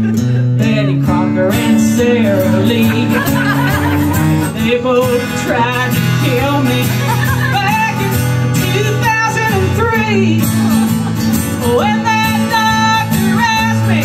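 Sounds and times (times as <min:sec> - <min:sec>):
acoustic guitar: 0:00.0 - 0:14.0
woman singing country song: 0:00.0 - 0:14.0.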